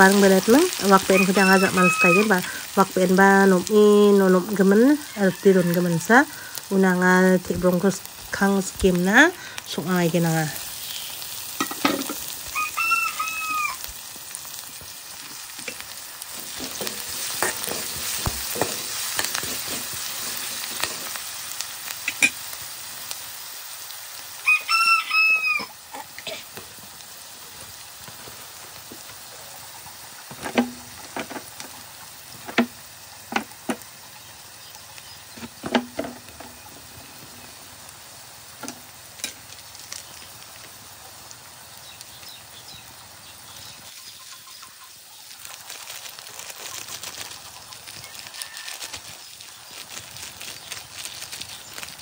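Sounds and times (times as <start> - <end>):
onions sizzling in oil: 0.0 - 52.0.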